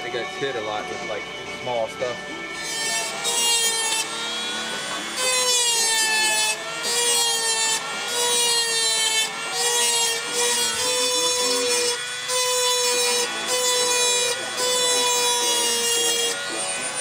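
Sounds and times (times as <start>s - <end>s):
rotary tool whining and grinding: 0.0s - 17.0s.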